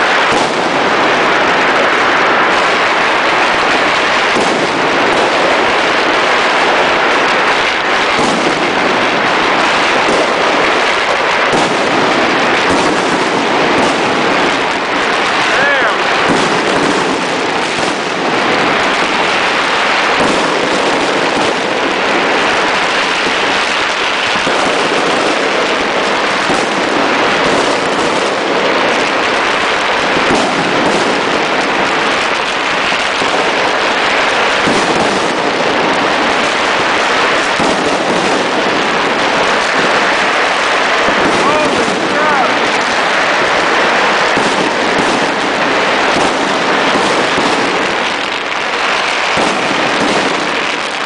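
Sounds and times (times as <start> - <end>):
fireworks crackling and banging: 0.0 - 51.0.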